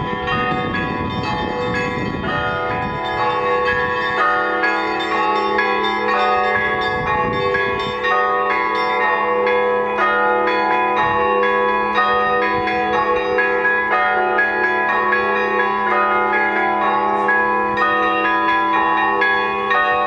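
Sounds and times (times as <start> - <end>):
church bells struck rapidly: 0.0 - 20.0
hum of large bells: 0.0 - 20.0.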